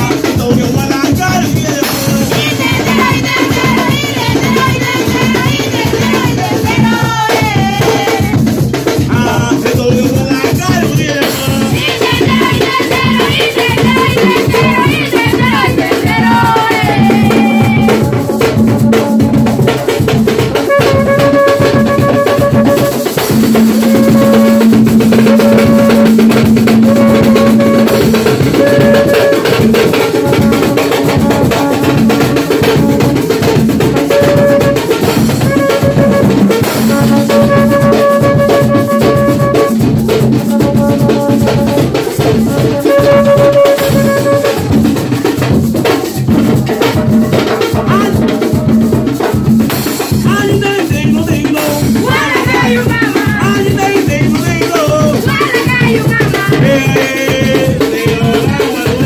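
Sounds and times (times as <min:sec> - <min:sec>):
drum kit: 0:00.0 - 0:59.0
hand drums drumming: 0:00.0 - 0:59.0.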